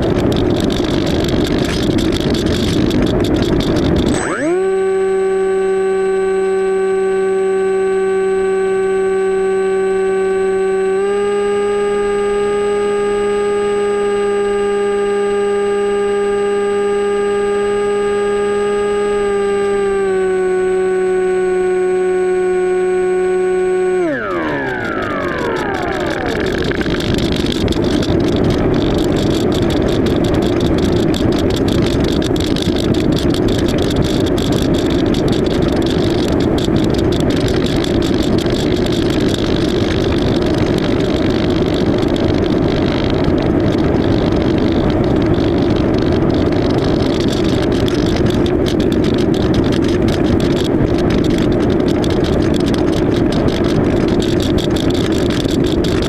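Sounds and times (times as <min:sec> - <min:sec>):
electric motor and propeller: 0:00.0 - 0:56.0
wind rushing over microphone: 0:00.0 - 0:56.0.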